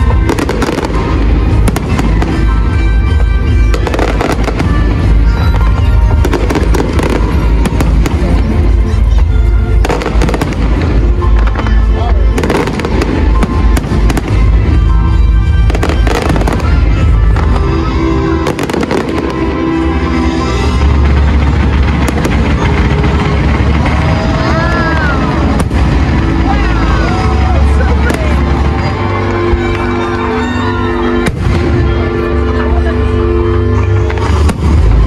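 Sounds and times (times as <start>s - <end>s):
fireworks bursting and crackling: 0.0s - 32.8s, 33.6s - 35.0s
loud music with heavy bass: 0.0s - 35.0s.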